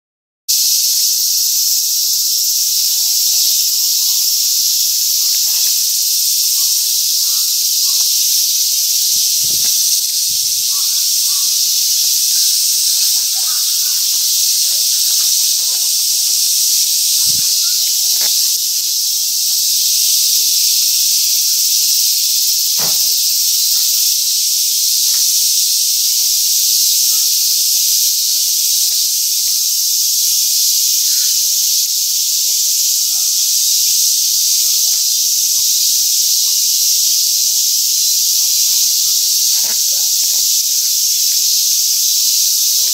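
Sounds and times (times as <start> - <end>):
cicadas droning: 0.5 - 42.9.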